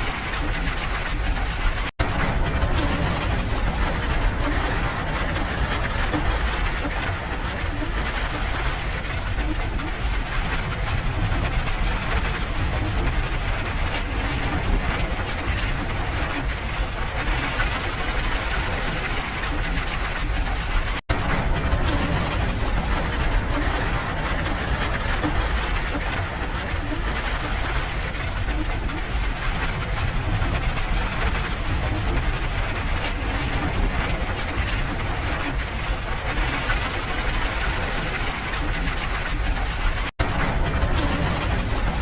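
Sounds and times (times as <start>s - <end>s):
low rumble: 0.0s - 42.0s
rain: 0.0s - 42.0s.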